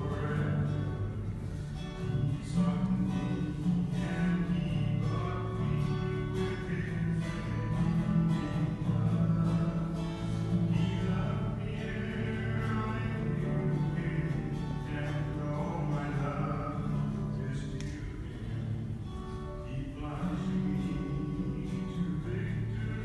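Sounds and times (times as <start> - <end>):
man singing: 0.0 - 23.0
strummed acoustic guitar: 0.0 - 23.0.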